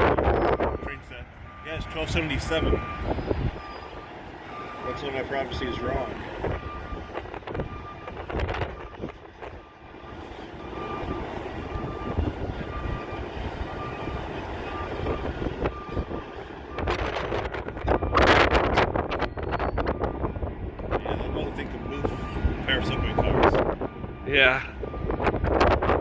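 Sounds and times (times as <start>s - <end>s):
reversing alarm beeps: 0.0s - 20.3s, 20.9s - 25.9s
diesel engine rumble: 0.0s - 26.0s.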